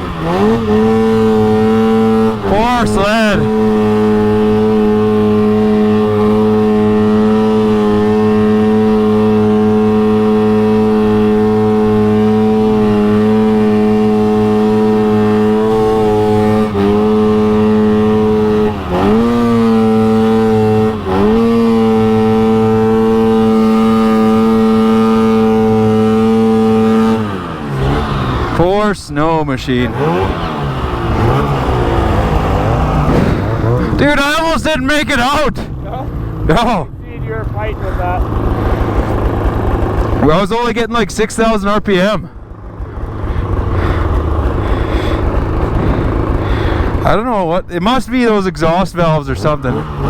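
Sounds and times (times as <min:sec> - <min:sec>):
snowmobile engine at high revs: 0:00.0 - 0:50.0.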